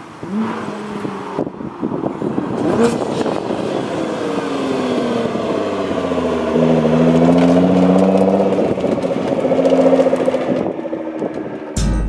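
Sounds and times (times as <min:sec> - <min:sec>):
car engine and exhaust: 0:00.0 - 0:12.0.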